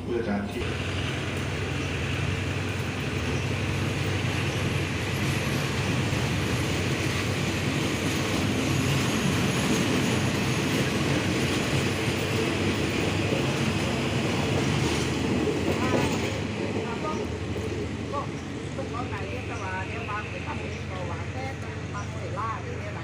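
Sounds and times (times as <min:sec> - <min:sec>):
diesel train rumbling on track: 0:00.0 - 0:23.0.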